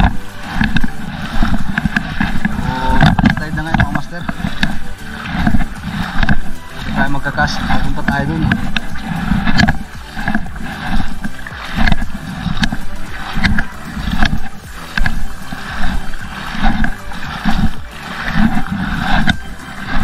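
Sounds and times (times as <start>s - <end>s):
footsteps splashing in water: 0.0s - 20.0s
wind rumble on microphone: 0.0s - 20.0s.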